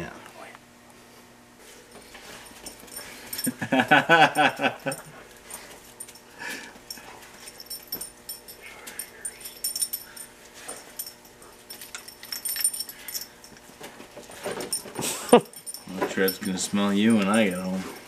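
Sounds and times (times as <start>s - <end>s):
light high jingling: 2.4s - 13.7s, 14.4s - 18.0s.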